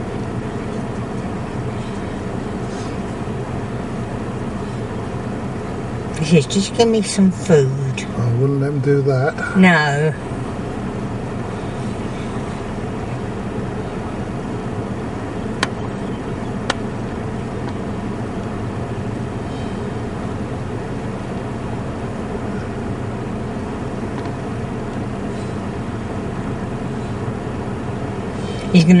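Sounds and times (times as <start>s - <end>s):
car engine hum and road noise: 0.0s - 29.0s.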